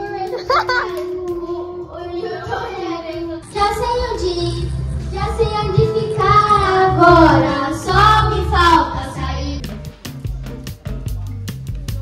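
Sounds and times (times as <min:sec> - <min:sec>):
girls singing karaoke: 0:00.0 - 0:09.7
karaoke backing track: 0:00.0 - 0:12.0.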